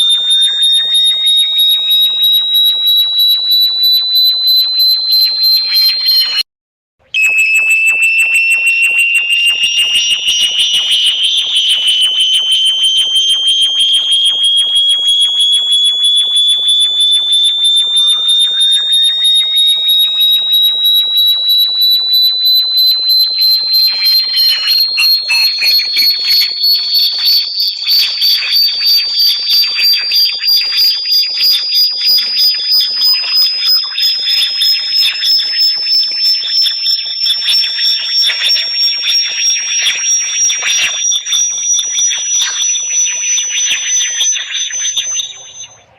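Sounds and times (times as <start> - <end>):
high-pitched electronic tone: 0.0 - 6.4, 7.2 - 45.9
electronic tones sweeping: 1.6 - 6.4, 7.2 - 16.1, 17.6 - 45.9.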